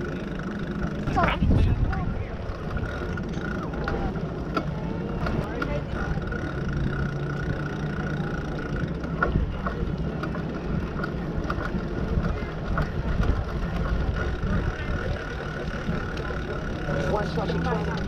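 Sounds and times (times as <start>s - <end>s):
bicycle rumble on pavement: 0.0s - 18.0s.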